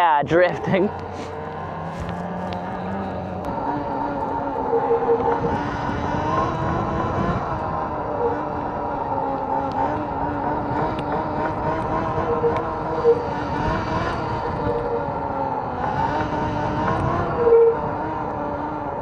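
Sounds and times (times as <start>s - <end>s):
wind and tyre noise: 0.0s - 19.0s
electric motor whine: 0.5s - 19.0s.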